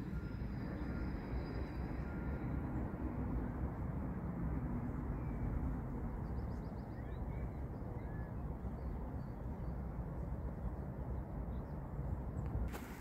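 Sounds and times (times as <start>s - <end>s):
low rush of wind or traffic: 0.0s - 13.0s.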